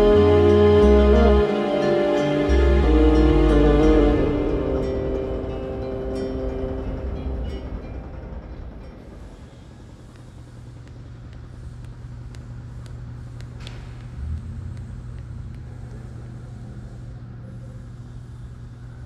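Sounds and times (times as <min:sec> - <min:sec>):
low ambient hum: 0:00.0 - 0:19.0.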